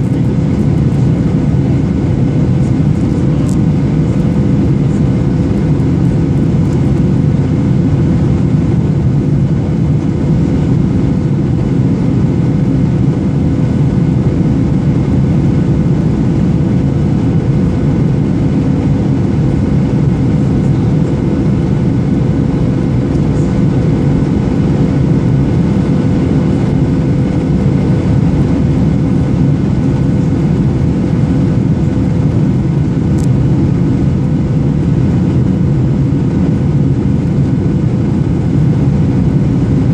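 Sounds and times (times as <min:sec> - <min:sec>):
constant hum: 0:00.0 - 0:39.9
jet engine cabin drone: 0:00.0 - 0:39.9.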